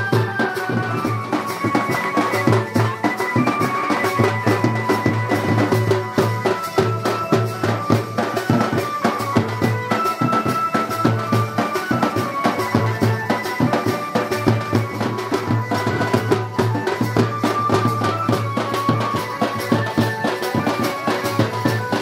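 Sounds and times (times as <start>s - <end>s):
music with fast drum beat: 0.0s - 22.0s.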